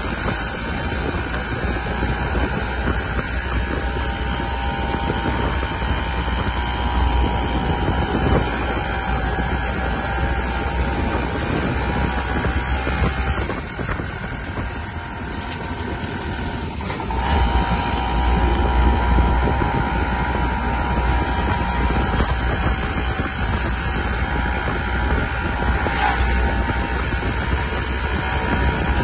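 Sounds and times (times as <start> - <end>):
moving train rumble: 0.0 - 29.0
wind buffeting microphone: 0.0 - 29.0.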